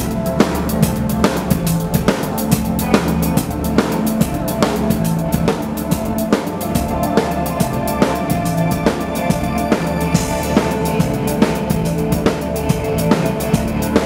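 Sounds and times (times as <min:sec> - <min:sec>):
drum kit beat: 0:00.0 - 0:14.0
live rock band playing: 0:00.0 - 0:14.0.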